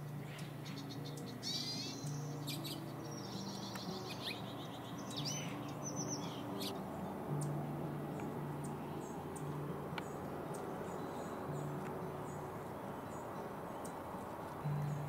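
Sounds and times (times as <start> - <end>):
soft background music: 0.0 - 15.0
songbirds chirping and trilling: 0.0 - 15.0.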